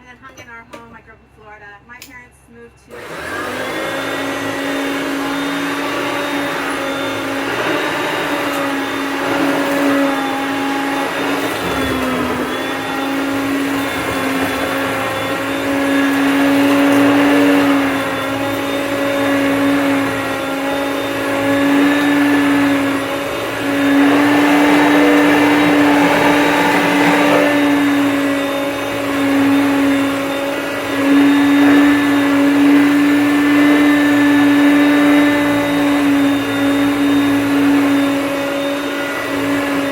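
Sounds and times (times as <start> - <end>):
vacuum cleaner motor whine: 2.9 - 39.9.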